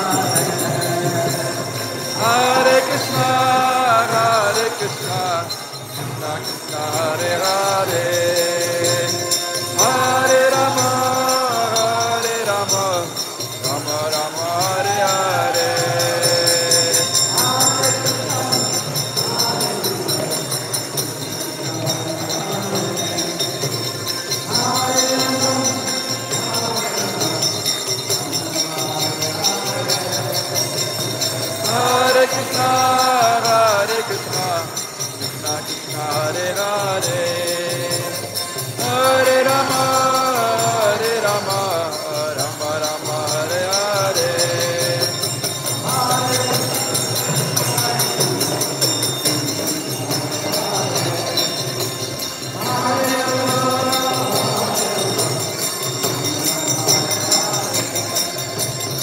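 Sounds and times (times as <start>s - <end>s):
group chanting: 0.0s - 5.4s, 6.8s - 13.0s, 14.0s - 20.6s, 21.6s - 34.6s, 38.8s - 58.3s
rhythmic drum beat: 0.0s - 59.0s
small hand cymbals ringing: 0.0s - 59.0s.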